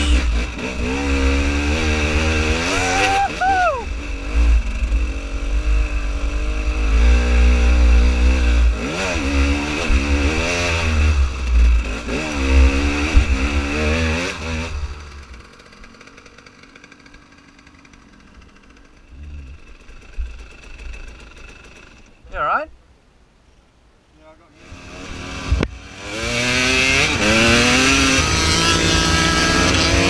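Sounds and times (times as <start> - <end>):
dirt bike engine revving: 0.0 - 22.5, 24.6 - 30.0.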